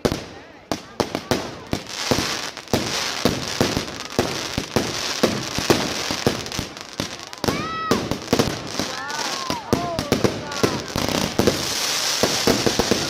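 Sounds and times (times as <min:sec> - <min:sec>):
continuous hiss: 0:00.0 - 0:13.0
fireworks bangs and crackles: 0:00.0 - 0:13.0.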